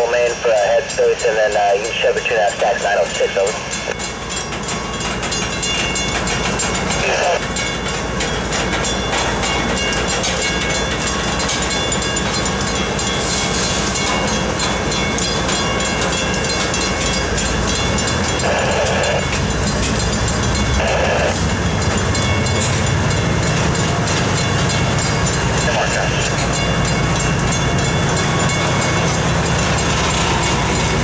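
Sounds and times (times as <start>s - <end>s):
freight train wheels rumbling: 0.0s - 31.0s
high ringing tones: 0.0s - 31.0s
wheels clickety-clack: 0.3s - 31.0s.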